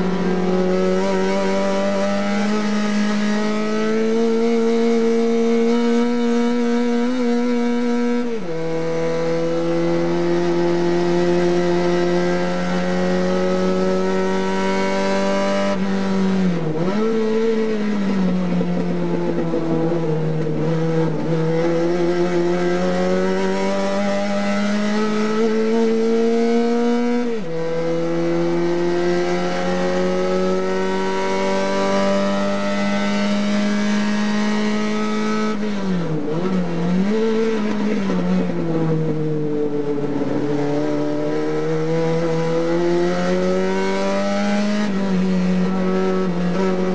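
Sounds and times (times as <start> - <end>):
race car engine at high revs: 0.0 - 46.9
wind and road noise: 0.0 - 46.9.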